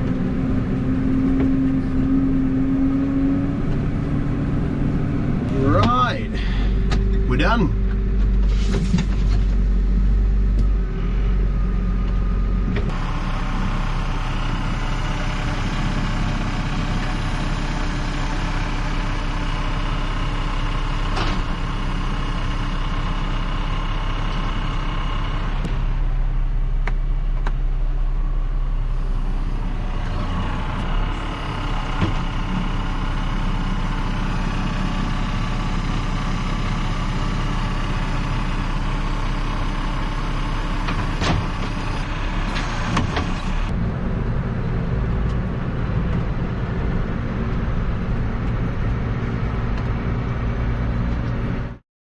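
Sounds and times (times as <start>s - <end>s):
tractor engine running: 0.0s - 51.8s.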